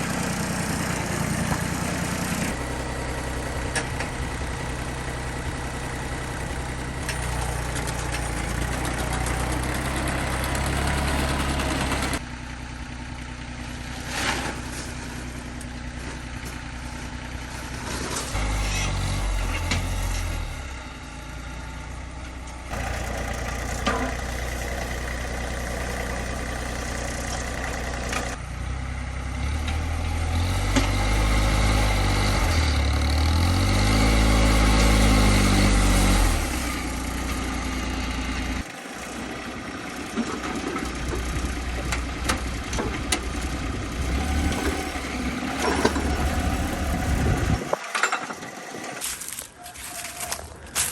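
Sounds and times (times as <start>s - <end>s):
engine running under load: 0.0s - 50.9s.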